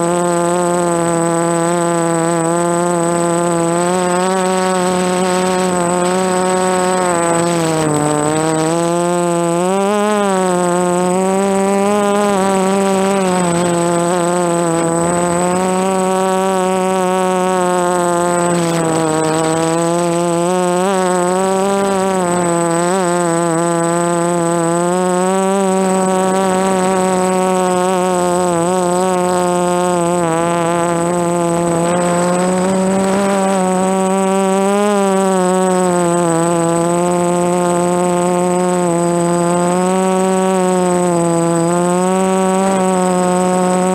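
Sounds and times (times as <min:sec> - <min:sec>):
quadcopter motors buzzing: 0:00.0 - 0:43.9.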